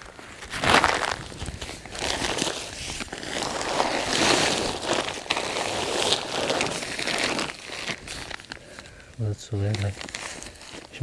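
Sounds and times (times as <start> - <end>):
plastic sack rustling and crinkling: 0.0 - 11.0
soil spilling: 0.0 - 11.0.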